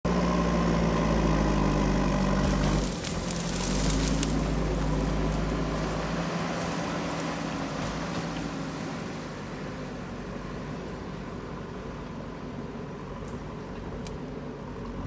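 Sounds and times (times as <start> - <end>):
diesel engine running: 0.1 - 15.0.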